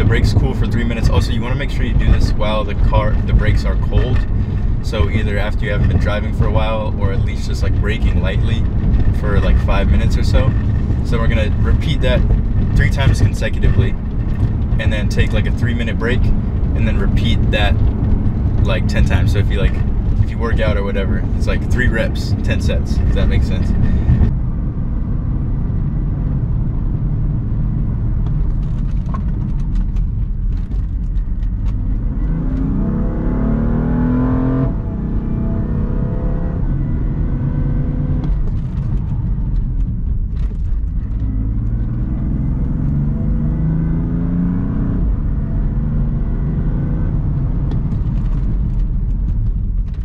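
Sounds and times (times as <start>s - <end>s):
car engine accelerating hard: 0.0s - 50.0s
road noise: 0.0s - 50.0s.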